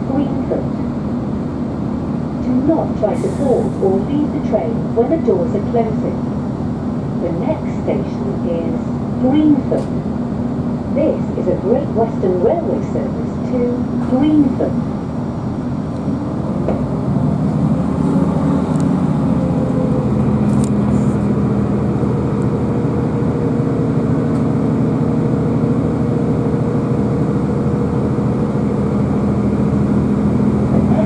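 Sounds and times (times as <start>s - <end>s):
train diesel engine drone: 0.0s - 31.0s.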